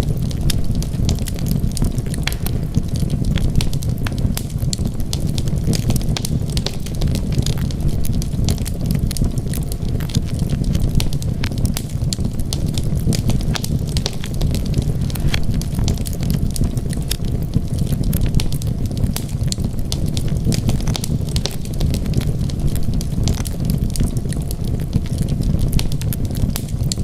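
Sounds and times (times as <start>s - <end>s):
burning wood crackling and popping: 0.0s - 27.0s
fire flames rumbling: 0.0s - 27.0s.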